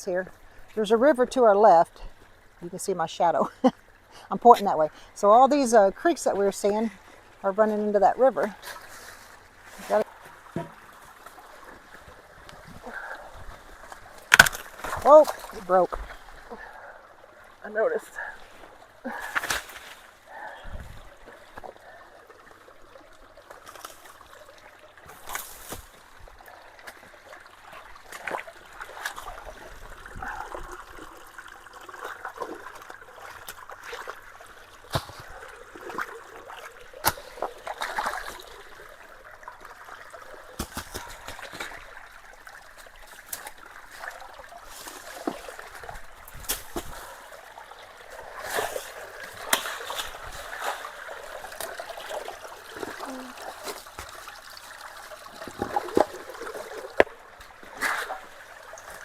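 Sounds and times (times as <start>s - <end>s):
creek water trickling and splashing: 0.0s - 59.0s.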